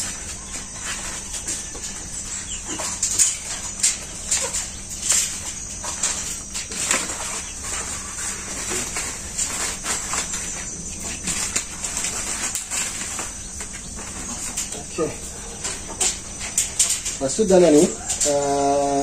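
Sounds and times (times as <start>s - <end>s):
high insect drone: 0.0s - 19.0s
leaves rustling in mesh dryer: 0.0s - 19.0s.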